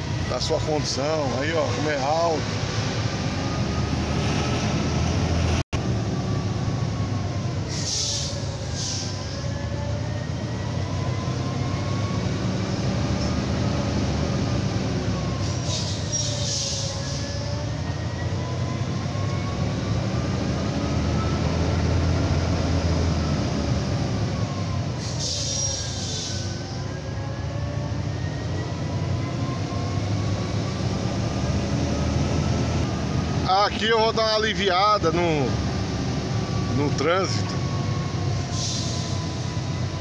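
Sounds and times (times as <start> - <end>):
diesel truck engine droning: 0.0 - 40.0.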